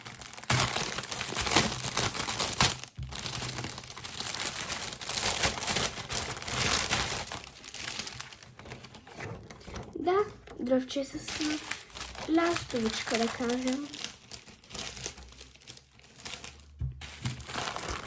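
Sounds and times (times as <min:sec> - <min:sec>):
packaging crinkling and rustling: 0:00.0 - 0:18.0.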